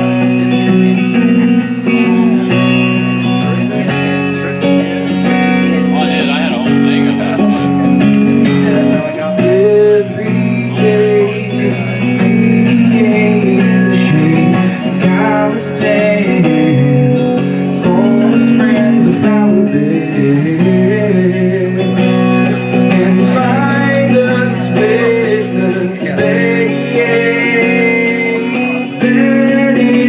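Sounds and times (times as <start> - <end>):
live band guitar-led song: 0.0 - 30.0.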